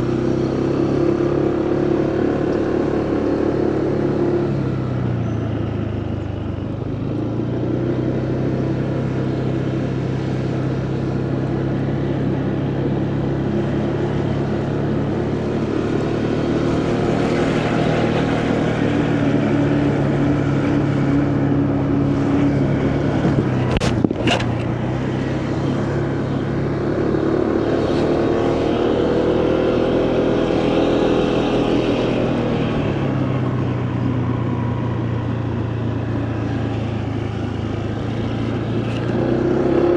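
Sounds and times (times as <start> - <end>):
motorcycle engine running: 0.0 - 39.9
wind and tyre noise: 0.0 - 39.9.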